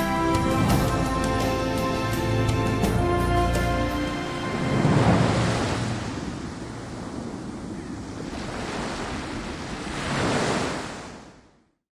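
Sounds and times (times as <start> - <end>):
waves surging: 0.0 - 11.6
wind: 0.0 - 11.8.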